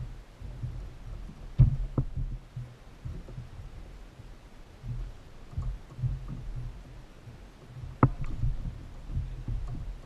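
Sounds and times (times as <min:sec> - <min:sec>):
low rumble: 0:00.0 - 0:10.0
thumps and knocks on plastic kayak: 0:00.4 - 0:04.0, 0:04.8 - 0:10.0.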